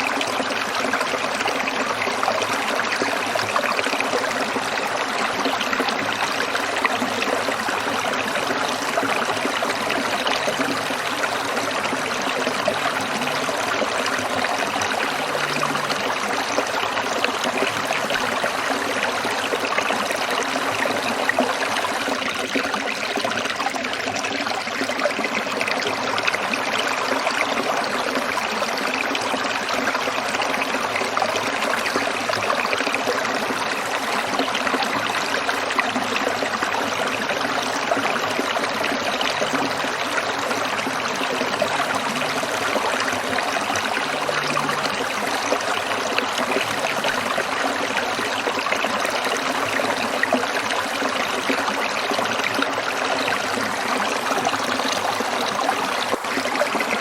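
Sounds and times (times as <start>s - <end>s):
stream water over stones: 0.0s - 57.0s.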